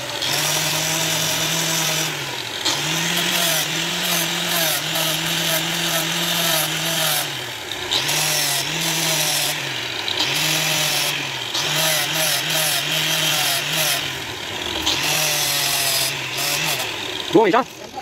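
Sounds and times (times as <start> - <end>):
angle grinder sanding steel: 0.0 - 18.0.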